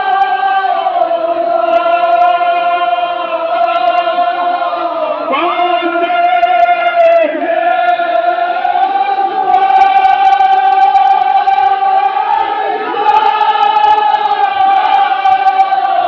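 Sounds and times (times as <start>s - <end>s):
group of voices chanting: 0.0s - 16.0s.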